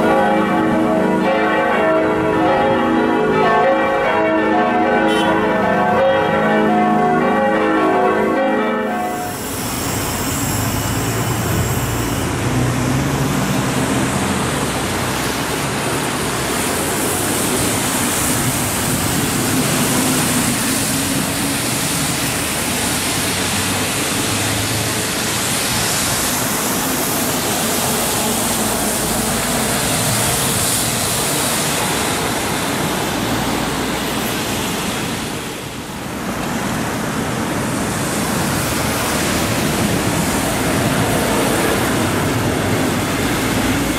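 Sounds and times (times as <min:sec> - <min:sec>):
passing car and bus engines: 0:00.0 - 0:43.9
tyres hissing on wet road: 0:00.0 - 0:43.9.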